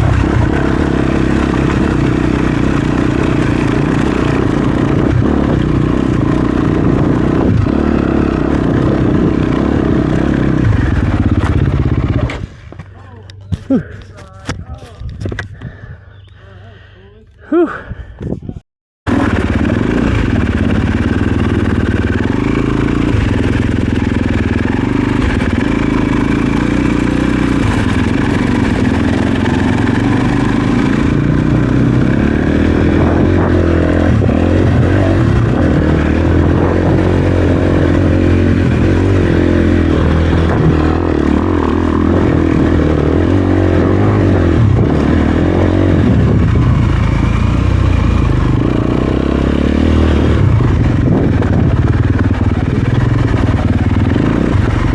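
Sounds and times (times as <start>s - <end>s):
dirt bike engine running: 0.0s - 16.1s, 19.1s - 54.9s.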